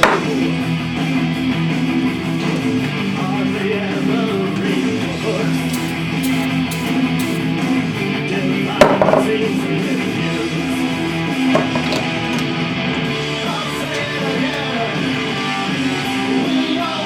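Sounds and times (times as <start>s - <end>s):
guitar instrumental music: 0.0s - 17.0s.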